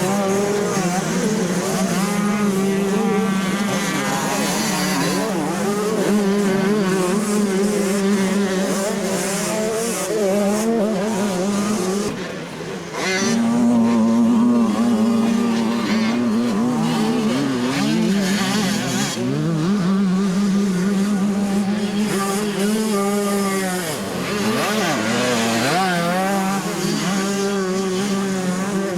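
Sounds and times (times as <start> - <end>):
motocross bike engines racing: 0.0 - 28.9.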